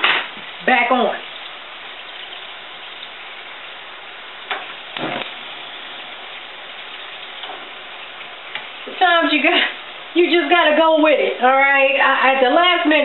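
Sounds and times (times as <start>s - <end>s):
potato slices sizzling in a pan: 0.0s - 13.0s.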